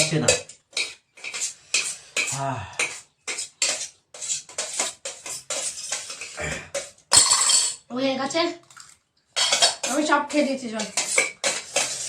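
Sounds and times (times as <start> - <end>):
plates and cutlery clattering: 0.0 - 7.9, 9.4 - 12.0.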